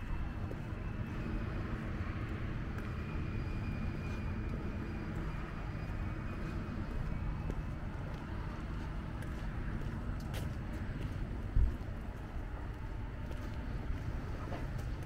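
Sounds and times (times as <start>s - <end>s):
trains idling low rumble: 0.0s - 15.0s.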